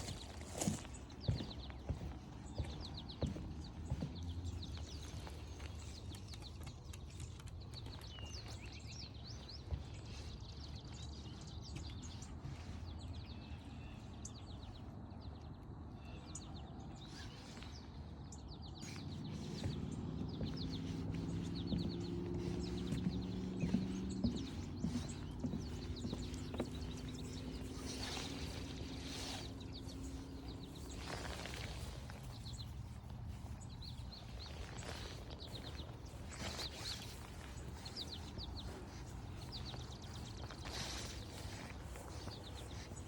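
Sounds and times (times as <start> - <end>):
footsteps on forest trail: 0.0 - 43.0
small birds chirping: 0.0 - 43.0.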